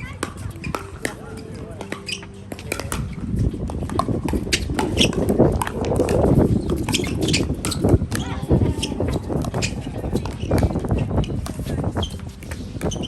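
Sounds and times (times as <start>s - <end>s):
paddle striking ball: 0.0s - 13.0s
wind buffeting microphone: 0.0s - 13.0s.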